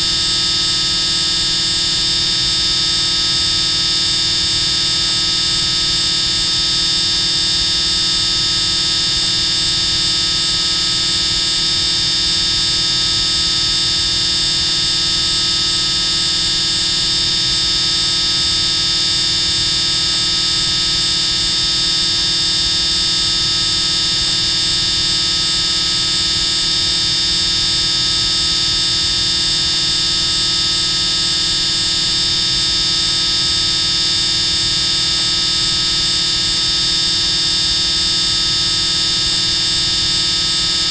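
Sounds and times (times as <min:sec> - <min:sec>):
loud high-pitched buzzing: 0:00.0 - 0:40.9.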